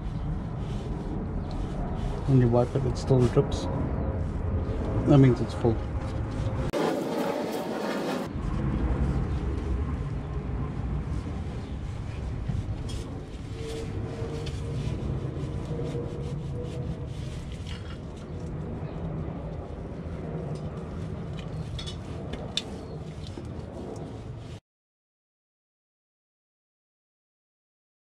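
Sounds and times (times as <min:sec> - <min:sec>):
low background rumble: 0:00.0 - 0:06.8, 0:08.2 - 0:24.6.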